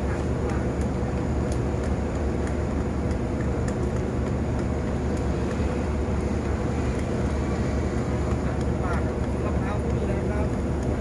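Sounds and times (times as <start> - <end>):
diesel engines idling: 0.0 - 11.0.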